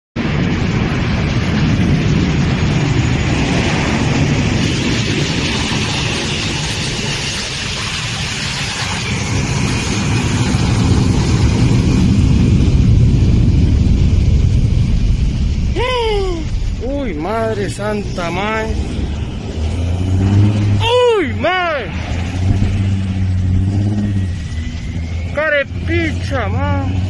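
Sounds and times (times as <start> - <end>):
fire trucks driving past: 0.2 - 27.0
jet engines rumbling: 0.2 - 27.0.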